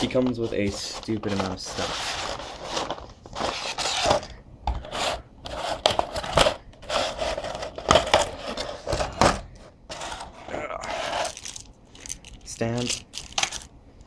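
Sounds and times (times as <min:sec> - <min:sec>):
plastic packaging rustling: 0:00.0 - 0:04.3, 0:05.6 - 0:13.7.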